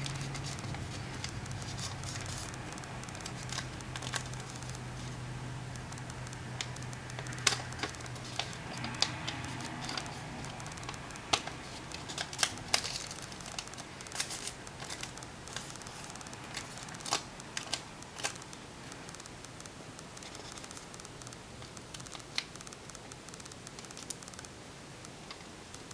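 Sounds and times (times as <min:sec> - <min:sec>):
paper crinkling and snapping: 0:00.0 - 0:19.4, 0:20.0 - 0:24.5.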